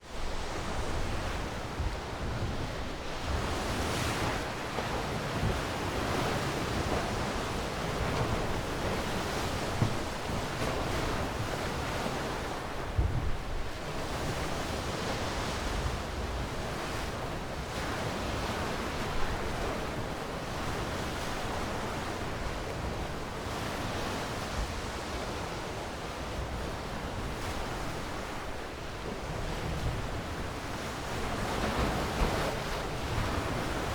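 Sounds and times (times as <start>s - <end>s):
sea waves washing onto shore: 0.0s - 33.9s.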